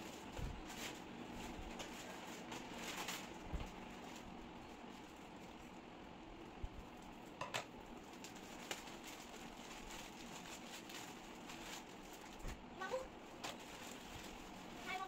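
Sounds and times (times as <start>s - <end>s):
plastic bag rustling: 0.0s - 5.7s, 8.0s - 15.0s.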